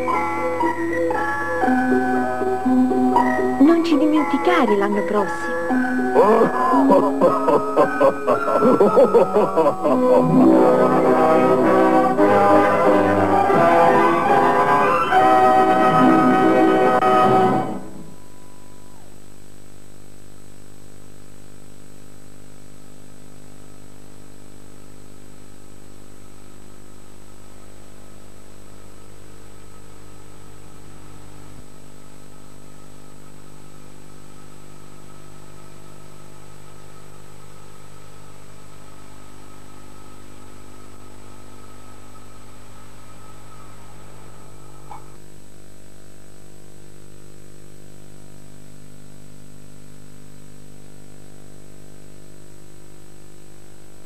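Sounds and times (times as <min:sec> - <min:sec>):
thin high whine: 0:00.0 - 0:45.4
electrical hum and buzz: 0:00.0 - 0:54.0.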